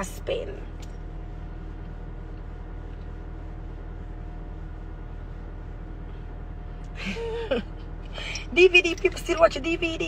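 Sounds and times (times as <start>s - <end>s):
car engine hum inside cabin: 0.0s - 10.0s
faint steady whine: 0.0s - 10.0s.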